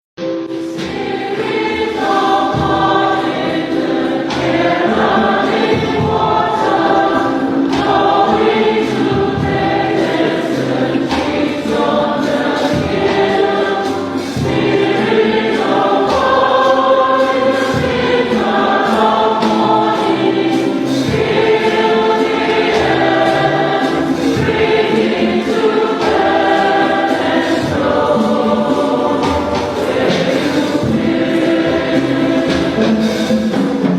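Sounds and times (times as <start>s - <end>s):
choir singing: 0.4s - 33.9s.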